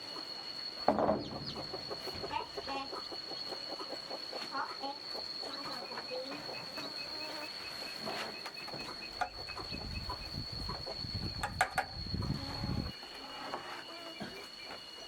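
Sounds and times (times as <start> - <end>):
insect rapid chirping: 0.0 - 15.0
insects high-pitched drone: 0.0 - 15.0.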